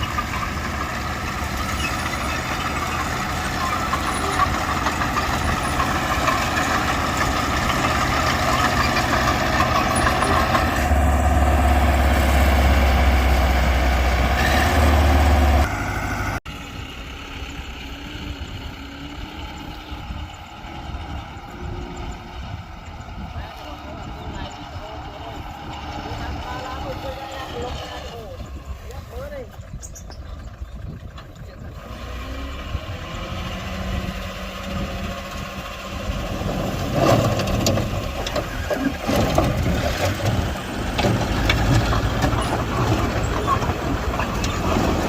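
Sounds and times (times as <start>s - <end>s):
heavy diesel engine under load: 0.0s - 45.0s.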